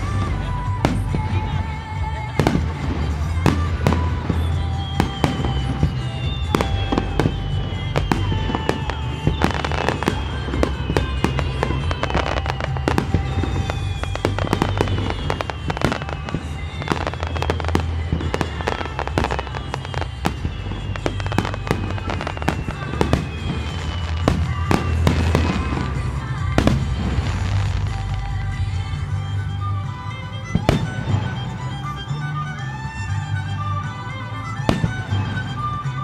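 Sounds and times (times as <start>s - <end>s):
falling whistling fireworks: 0.0s - 36.0s
music: 0.0s - 36.0s.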